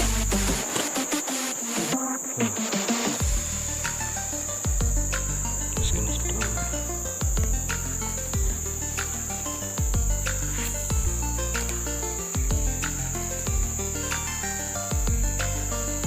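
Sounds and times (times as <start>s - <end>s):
background music with deep bass: 0.0s - 16.0s
insects droning: 0.0s - 16.0s.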